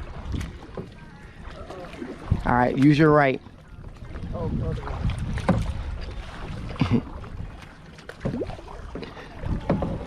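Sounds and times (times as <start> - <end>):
water splashing around kayak: 0.0 - 10.0
wind buffeting microphone: 0.0 - 10.0.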